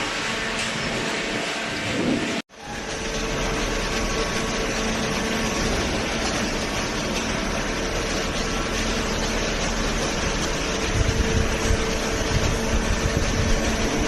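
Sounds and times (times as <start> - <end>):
baler motor and pump humming: 0.0 - 14.0
mechanical noise: 0.0 - 14.0.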